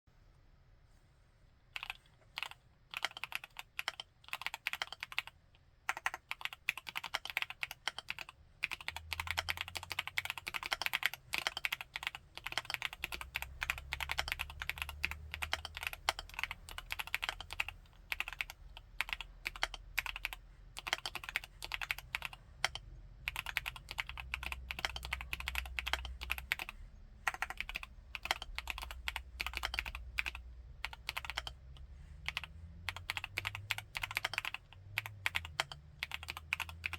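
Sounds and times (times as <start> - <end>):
typing on mechanical keyboard: 1.8 - 36.9.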